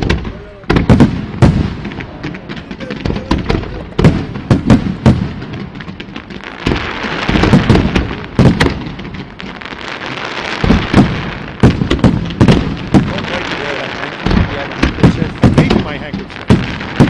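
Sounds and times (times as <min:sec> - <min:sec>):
fireworks booming: 0:00.0 - 0:17.0
fireworks crackling hiss: 0:00.0 - 0:17.0.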